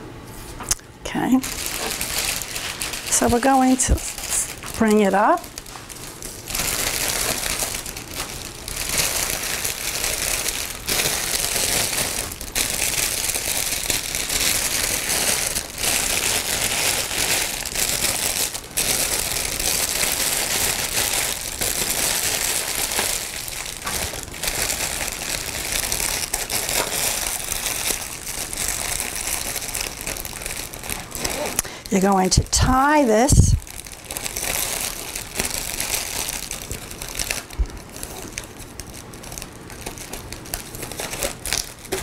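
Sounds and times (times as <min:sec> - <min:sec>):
cellophane wrap crinkling: 0:00.7 - 0:42.0.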